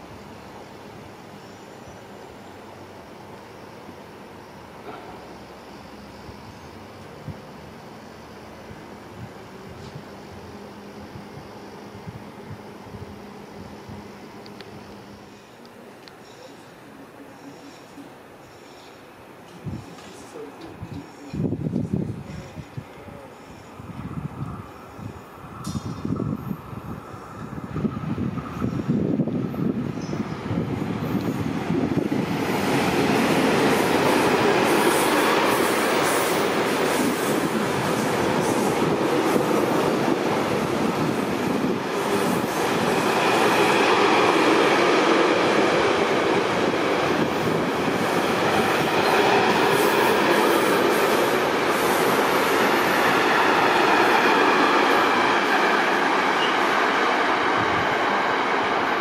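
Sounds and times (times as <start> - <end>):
train wheels rolling on rails: 0.0 - 59.0.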